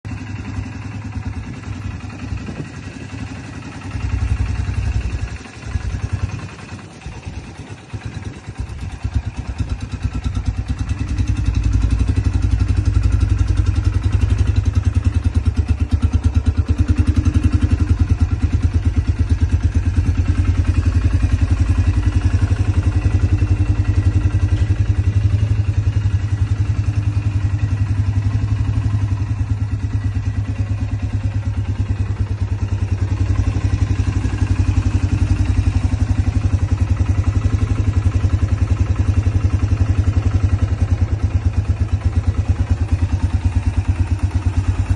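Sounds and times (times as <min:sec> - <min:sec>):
engine running with pulsing exhaust: 0:00.0 - 0:44.9.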